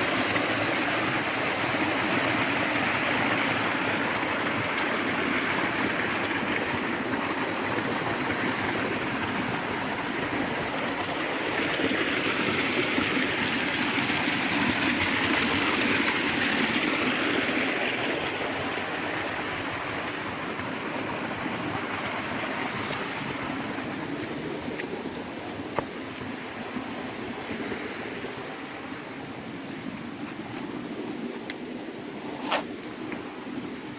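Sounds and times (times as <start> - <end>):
rushing river water: 0.0 - 33.9.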